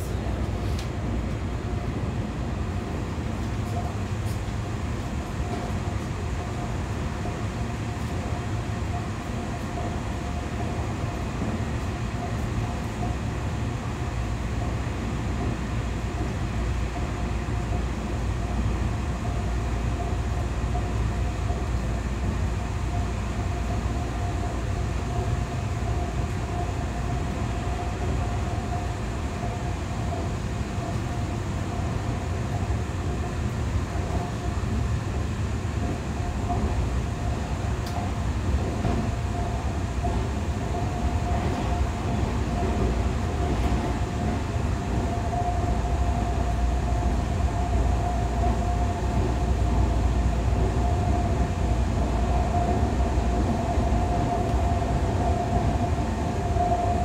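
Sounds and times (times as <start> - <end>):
train running gear rumble: 0.0 - 57.0.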